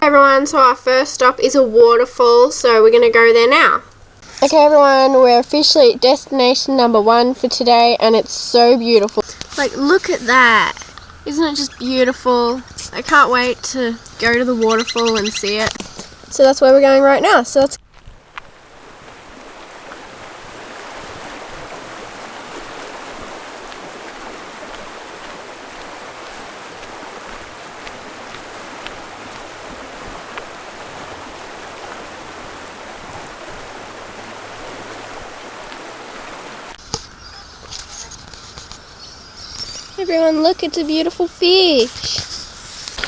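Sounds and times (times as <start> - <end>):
flowing water rushing: 0.0 - 43.0.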